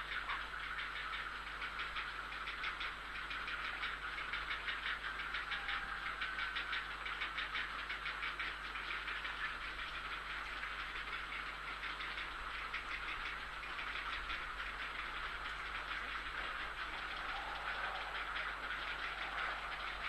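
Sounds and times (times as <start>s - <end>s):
heron chicks ticking chatter: 0.0s - 20.0s.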